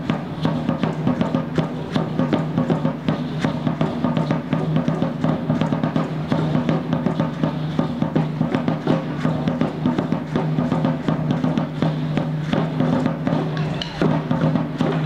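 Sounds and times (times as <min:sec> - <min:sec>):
steady drumbeat: 0:00.0 - 0:15.0.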